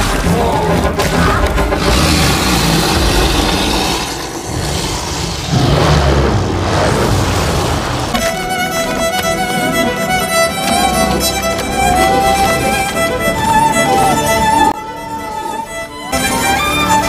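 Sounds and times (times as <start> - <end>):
dramatic orchestral film music: 0.0 - 17.0.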